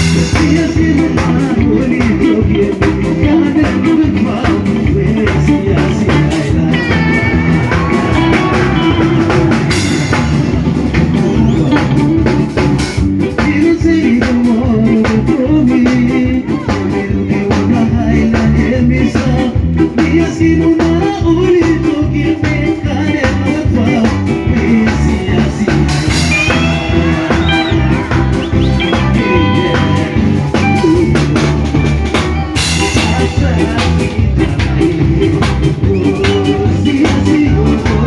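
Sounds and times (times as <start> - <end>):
band playing a cover song: 0.0 - 38.0.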